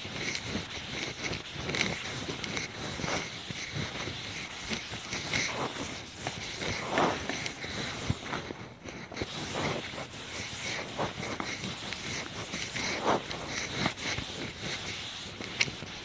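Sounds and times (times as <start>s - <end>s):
duster rubbing chalkboard: 0.0s - 16.0s.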